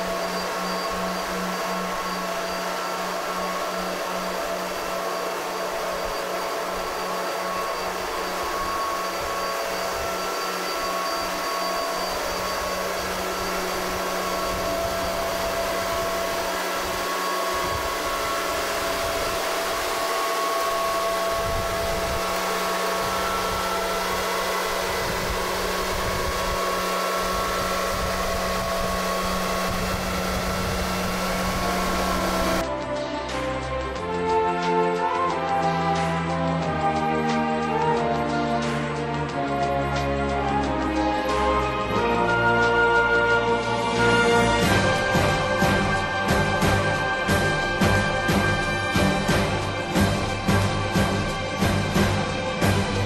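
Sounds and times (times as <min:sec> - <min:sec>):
heavy transporter machine drone: 0:00.0 - 0:53.0.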